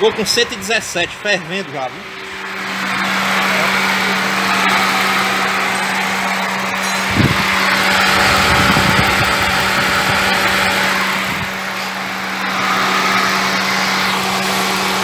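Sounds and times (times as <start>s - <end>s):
engine idling hum: 0.0s - 15.0s
radiator fan whirring: 0.0s - 15.0s.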